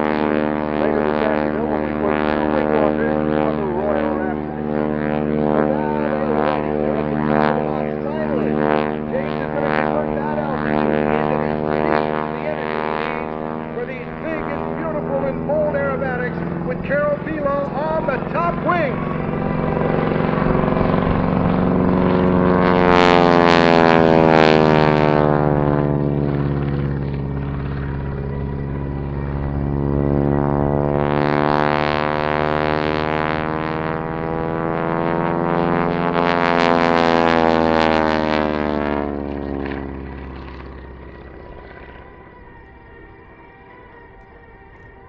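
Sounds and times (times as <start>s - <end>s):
propeller plane engine droning: 0.0s - 45.0s.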